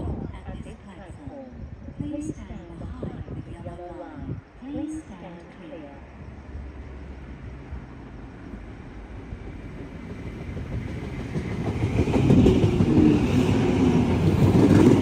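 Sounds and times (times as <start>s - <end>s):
train rumble and wheel clatter: 0.0s - 15.0s.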